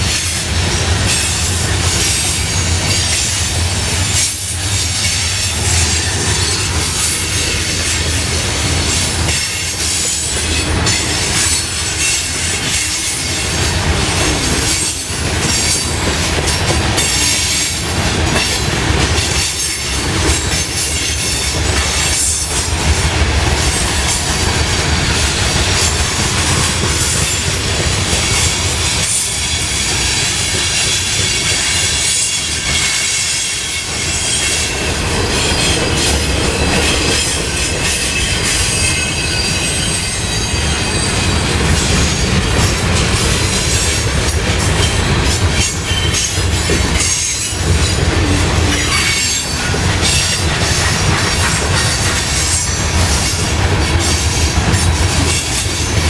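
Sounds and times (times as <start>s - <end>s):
steel wheels squealing: 0.0s - 22.8s, 23.6s - 56.0s
freight train rolling past: 0.0s - 56.0s
wheels clattering over rail joints: 0.0s - 56.0s.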